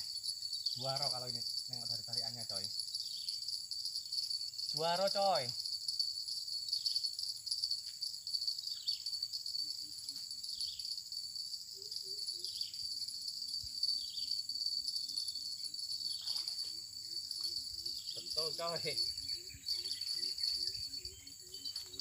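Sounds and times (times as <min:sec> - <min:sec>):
insects shrilling: 0:00.0 - 0:22.0.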